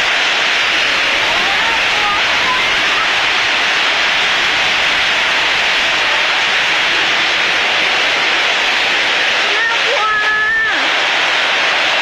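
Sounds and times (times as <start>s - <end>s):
wind noise: 0.0s - 11.5s
heavy rain: 0.0s - 12.0s.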